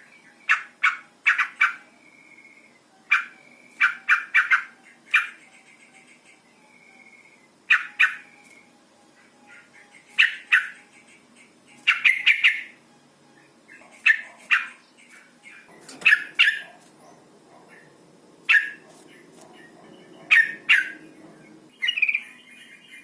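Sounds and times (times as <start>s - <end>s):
bird call notes: 0.4s - 16.8s, 17.7s - 22.8s.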